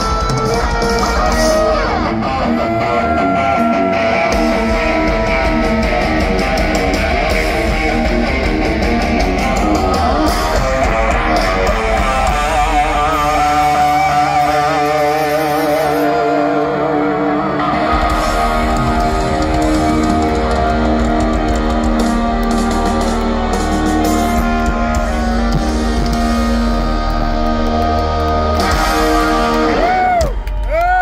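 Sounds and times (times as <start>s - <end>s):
electric guitars sustained notes: 0.0s - 31.0s
hard rock band playing live: 0.0s - 31.0s.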